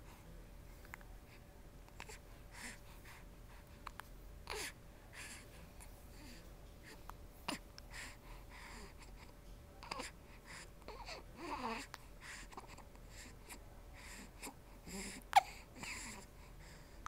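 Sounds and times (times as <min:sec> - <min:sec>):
person breathing quietly: 0:00.0 - 0:17.0.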